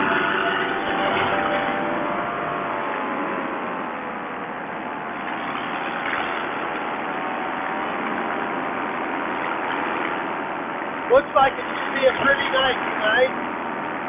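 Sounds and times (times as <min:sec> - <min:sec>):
paramotor engine and propeller: 0:00.0 - 0:14.0.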